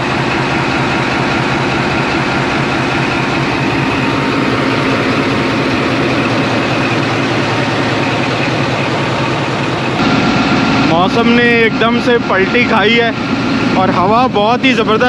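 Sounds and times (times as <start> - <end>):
locomotive engine idling hum: 0.0 - 15.0.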